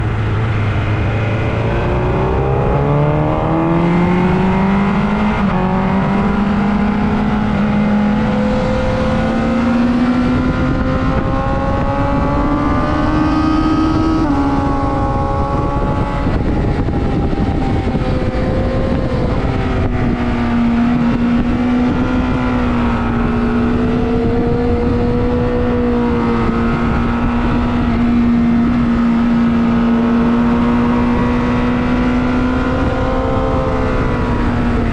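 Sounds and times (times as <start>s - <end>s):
heavy rush of noise: 0.0s - 32.1s
motorcycle engine revving: 0.0s - 34.9s.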